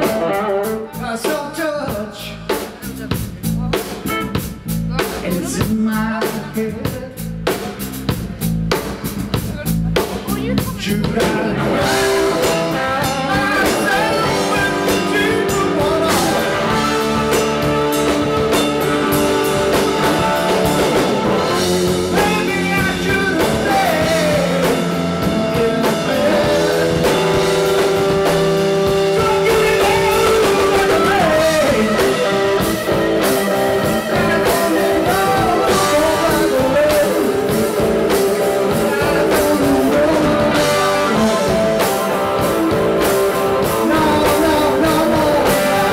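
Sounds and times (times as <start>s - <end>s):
electric guitar lead line bending: 0.0s - 2.6s, 10.8s - 45.9s
blues-rock band playing live: 0.0s - 45.9s.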